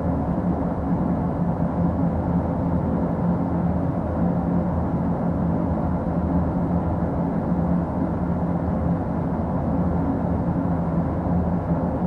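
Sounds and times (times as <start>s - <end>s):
constant hum: 0.0s - 12.0s.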